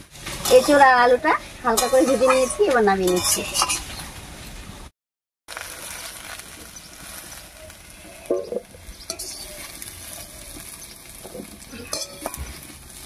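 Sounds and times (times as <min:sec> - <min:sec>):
spatula scraping a pan: 0:00.0 - 0:04.1, 0:05.5 - 0:13.0
oil sizzling in a wok: 0:00.0 - 0:04.6, 0:05.5 - 0:13.0.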